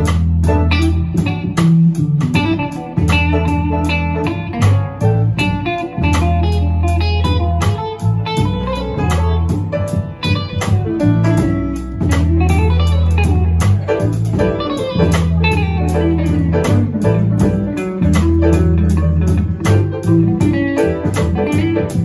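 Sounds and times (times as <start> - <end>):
drum kit with cymbal strokes: 0.0 - 22.0
electric bass: 0.0 - 22.0
electric guitar: 0.0 - 22.0
grand piano: 0.0 - 22.0.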